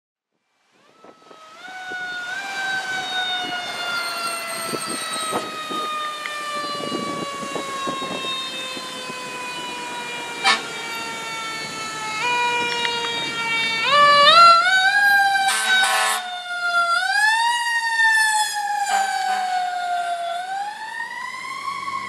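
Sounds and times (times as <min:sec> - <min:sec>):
passing traffic: 0:00.5 - 0:22.0
loud siren burst: 0:00.8 - 0:22.0
mechanical siren wailing: 0:00.8 - 0:22.0.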